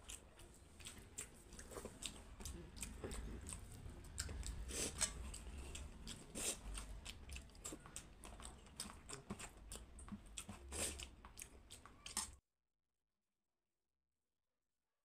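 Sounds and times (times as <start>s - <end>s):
close chewing and crunching: 0.0s - 12.4s.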